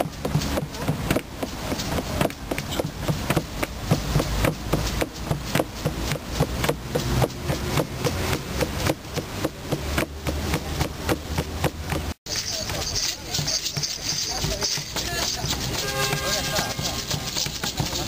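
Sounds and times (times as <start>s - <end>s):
hand drum beating: 0.0s - 18.0s.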